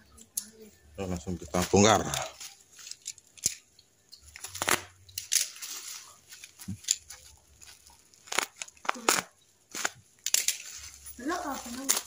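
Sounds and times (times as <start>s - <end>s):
plastic wrapping crinkling: 1.2s - 12.0s.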